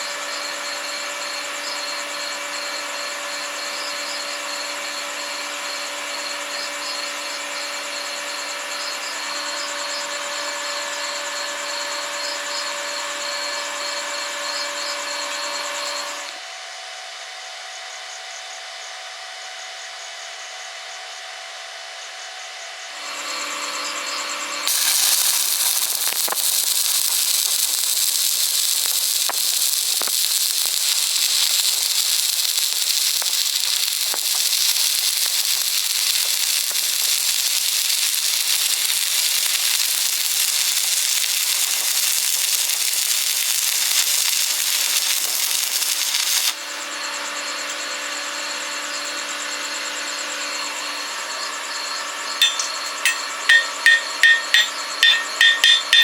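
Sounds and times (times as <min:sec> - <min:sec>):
welding arc crackling sizzle: 0:00.0 - 0:16.4, 0:23.0 - 0:49.7, 0:50.6 - 0:56.0.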